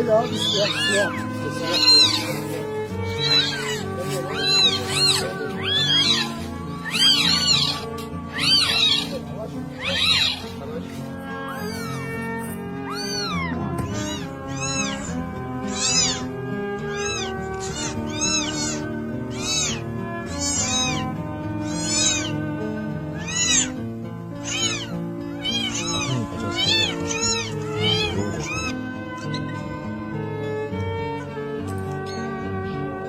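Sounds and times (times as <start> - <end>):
background music: 0.0 - 33.0
kittens mewing: 0.0 - 33.0.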